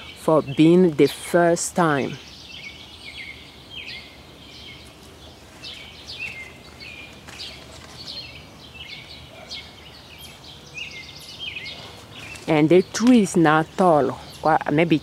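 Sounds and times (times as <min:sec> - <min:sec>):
birds chirping: 0:00.0 - 0:15.0
faint outdoor background: 0:00.0 - 0:15.0.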